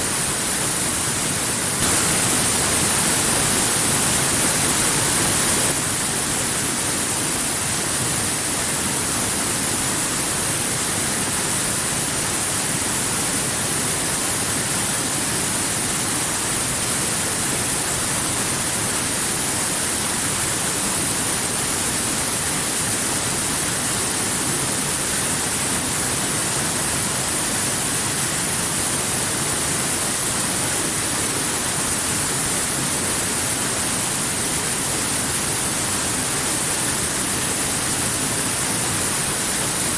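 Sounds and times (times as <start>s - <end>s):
waterfall rushing: 0.0s - 7.5s, 11.3s - 39.9s.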